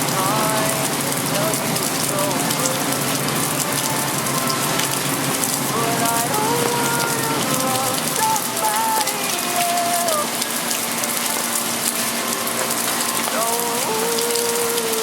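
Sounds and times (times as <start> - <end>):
rain pattering on hard surfaces: 0.0 - 15.0.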